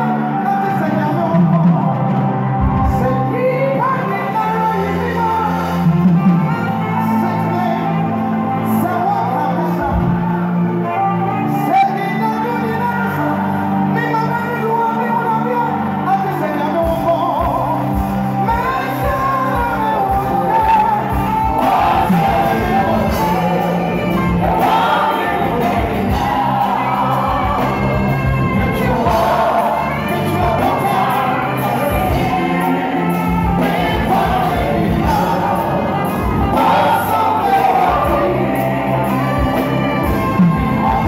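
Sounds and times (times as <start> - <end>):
band with keyboards and beat: 0.0 - 41.0
lead singer and choir singing: 0.0 - 41.0.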